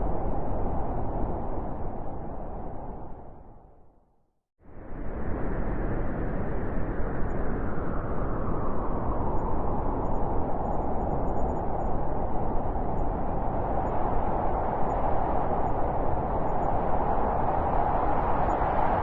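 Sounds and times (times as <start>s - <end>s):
blizzard wind rushing: 0.0s - 3.8s, 4.7s - 19.0s.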